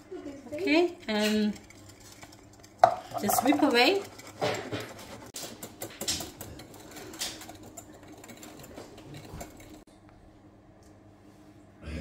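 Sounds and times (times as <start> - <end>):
whisk beating cream in bowl: 0.2 - 9.9.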